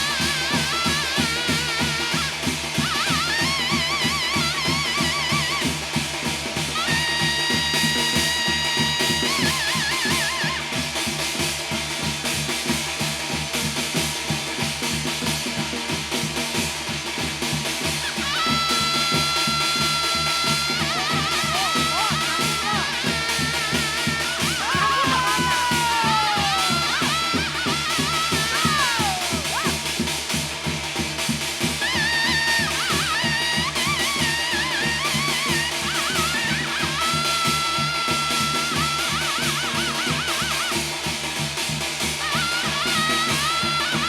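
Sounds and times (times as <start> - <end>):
fast dense drumming: 0.0 - 44.0.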